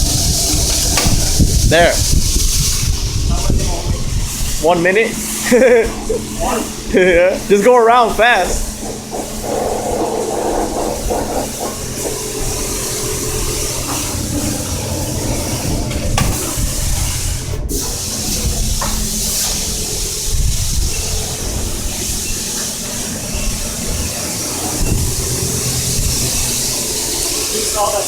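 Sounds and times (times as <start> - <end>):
low hum: 0.0 - 27.8
pressure washer spraying water: 0.0 - 28.0.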